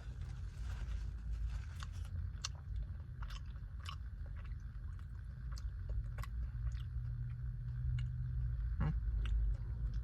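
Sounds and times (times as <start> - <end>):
steady low hum: 0.0 - 10.0
person chewing with wet smacks: 1.6 - 10.0.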